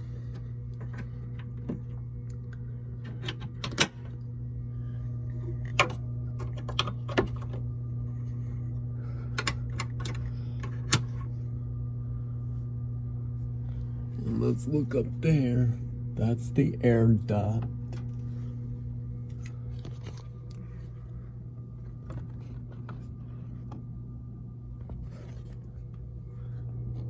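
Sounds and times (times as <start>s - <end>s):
air conditioning unit humming: 0.0s - 27.0s.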